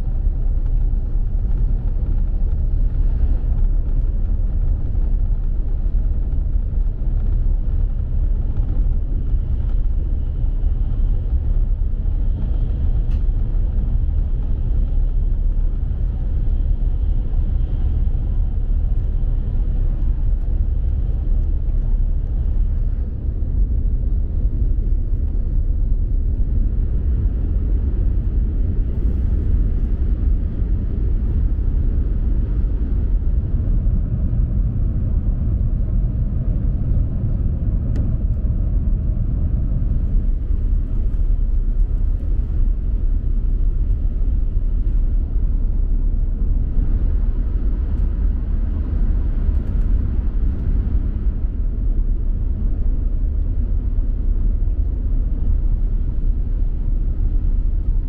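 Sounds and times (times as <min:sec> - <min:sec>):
train rumbling from inside cabin: 0:00.0 - 0:58.0.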